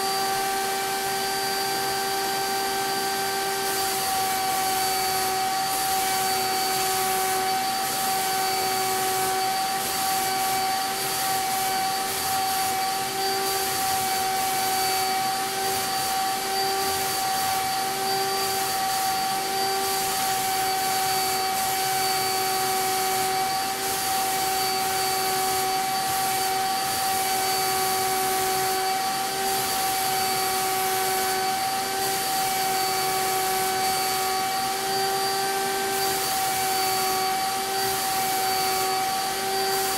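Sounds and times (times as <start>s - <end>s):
turbine sprayer whine: 0.0s - 39.9s.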